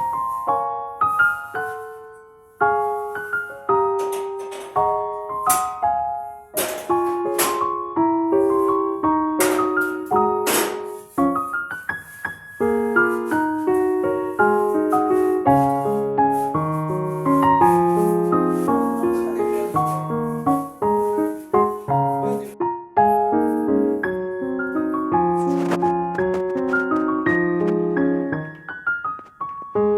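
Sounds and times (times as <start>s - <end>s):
piano music: 0.0s - 29.9s.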